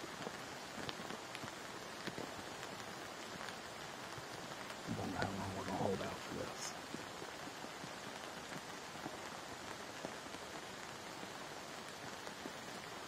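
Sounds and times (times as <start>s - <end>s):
rain falling on trees: 0.0s - 13.0s.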